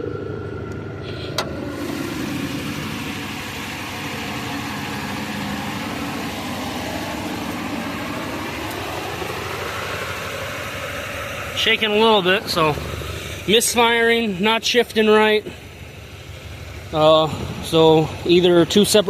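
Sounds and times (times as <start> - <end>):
car engine idling rough: 0.0 - 19.0.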